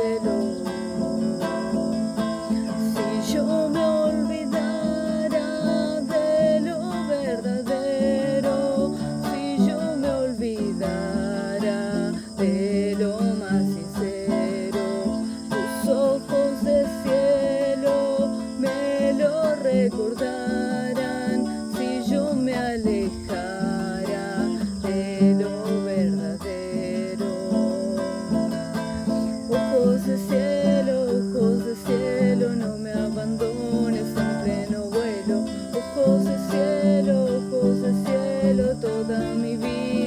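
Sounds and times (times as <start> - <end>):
acoustic guitar playing: 0.0 - 40.0.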